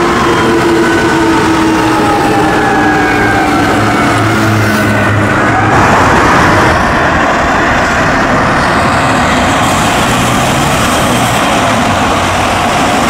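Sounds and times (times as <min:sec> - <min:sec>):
metro train passing: 0:00.0 - 0:13.0
road traffic: 0:00.0 - 0:13.0.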